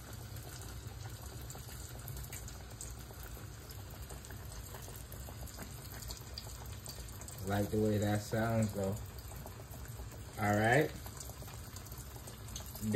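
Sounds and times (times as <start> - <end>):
fish frying in hot oil: 0.0 - 12.9.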